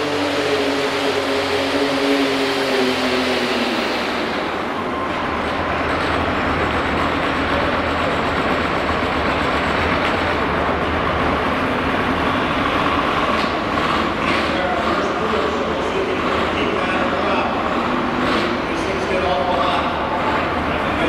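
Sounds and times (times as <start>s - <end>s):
tractor engine rumbling under load: 0.0s - 21.0s.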